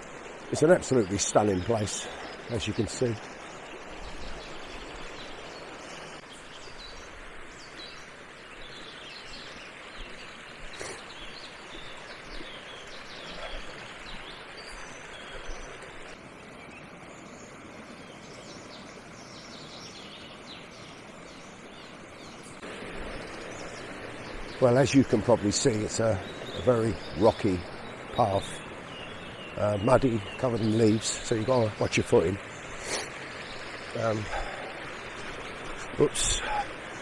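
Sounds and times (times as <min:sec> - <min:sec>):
brook rushing over stones: 0:00.0 - 0:37.0
small birds chirping: 0:00.0 - 0:37.0.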